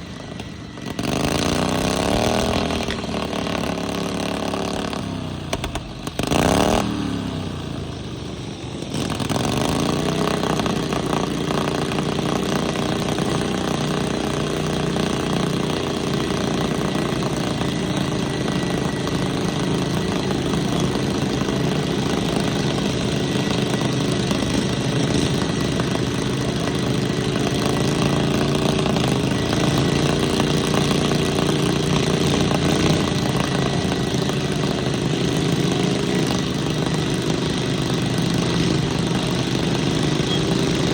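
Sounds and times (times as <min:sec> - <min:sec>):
small lawn mower engines running: 0:00.0 - 0:40.9.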